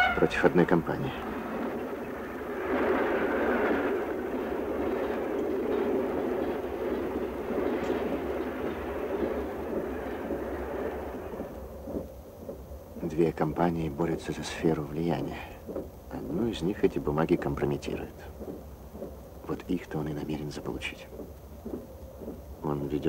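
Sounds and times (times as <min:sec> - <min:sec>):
moving train rumble: 0:00.0 - 0:23.0.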